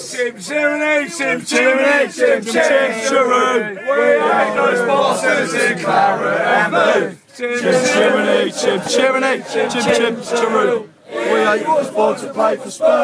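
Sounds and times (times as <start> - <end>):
crowd of men singing and chanting: 0.0 - 13.0.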